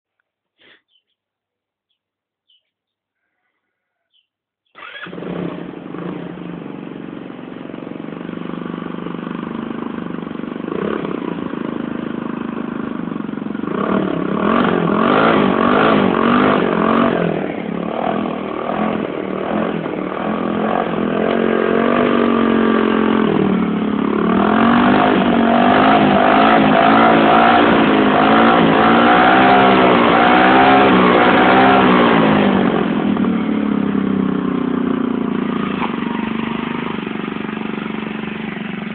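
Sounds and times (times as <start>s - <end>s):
scooter engine starting and idling: 4.1s - 38.9s
scooter engine revving: 4.8s - 38.9s.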